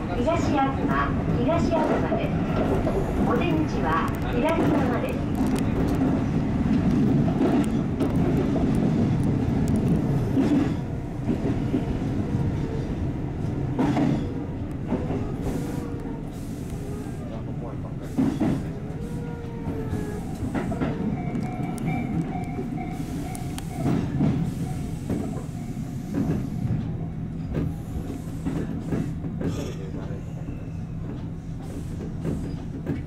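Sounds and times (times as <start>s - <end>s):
electric train hum: 0.0s - 33.0s.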